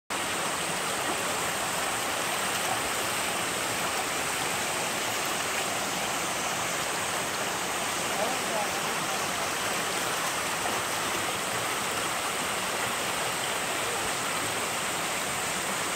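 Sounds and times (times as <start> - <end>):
stream rushing over rocks: 0.1 - 15.9.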